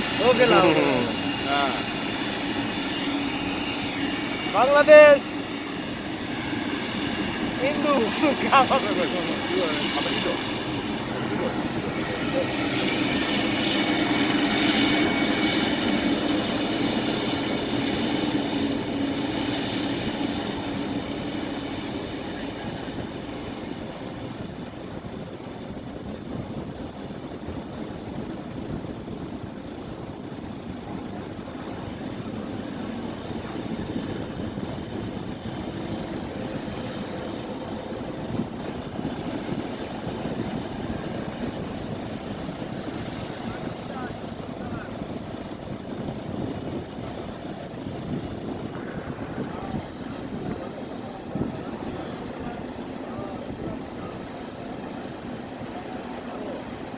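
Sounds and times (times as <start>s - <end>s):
jet engines whining: 0.0s - 56.9s.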